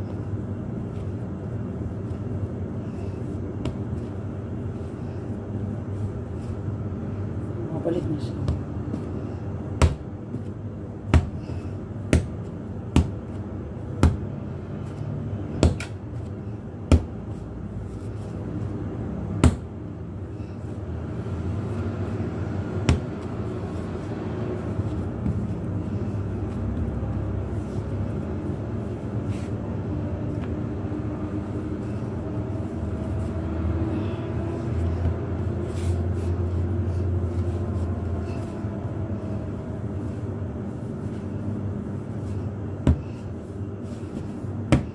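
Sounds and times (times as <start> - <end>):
hand kneading dough: 0.0 - 44.9
low hum: 0.0 - 44.9.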